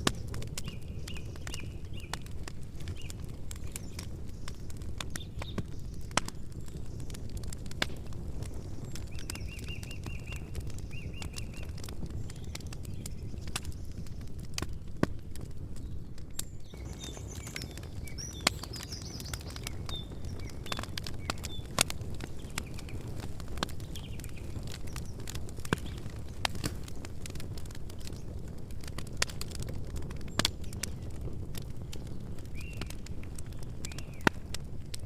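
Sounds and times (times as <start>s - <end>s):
small birds chirping: 0.0s - 34.6s
campfire crackling and popping: 0.0s - 35.0s
low rumble of burning wood: 0.0s - 35.0s.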